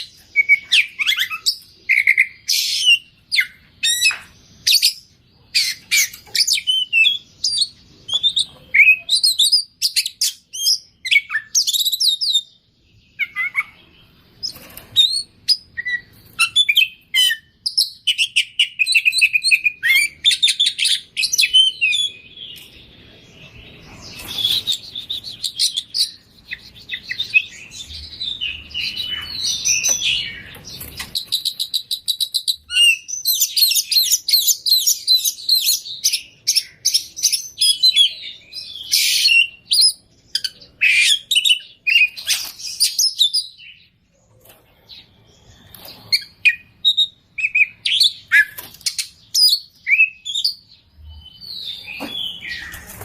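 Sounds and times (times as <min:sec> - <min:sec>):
bird singing whistles and trills: 0:00.0 - 0:22.7, 0:23.4 - 0:43.9, 0:45.5 - 0:53.0.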